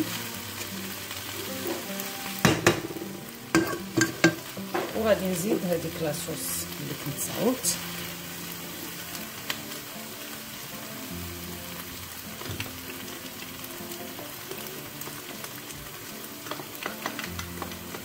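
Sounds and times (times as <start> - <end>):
noodles sizzling in a frying pan: 0.0 - 18.0.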